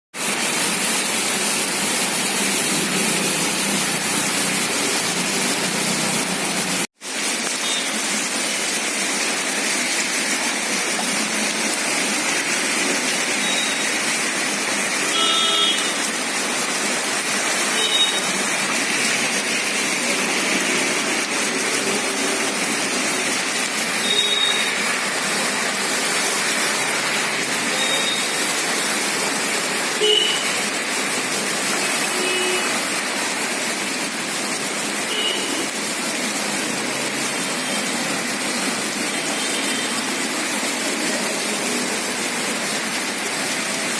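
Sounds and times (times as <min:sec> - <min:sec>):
heavy rain pouring: 0:00.2 - 0:43.9.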